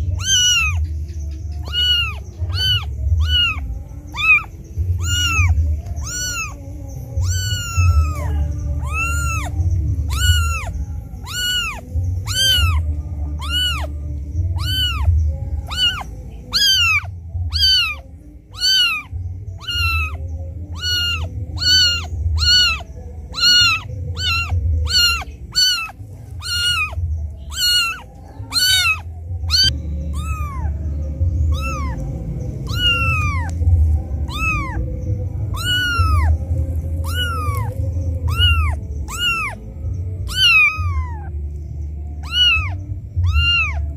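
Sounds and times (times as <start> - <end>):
kitten mewing: 0.0 - 0.9, 1.5 - 30.8, 31.4 - 41.3, 42.2 - 43.9.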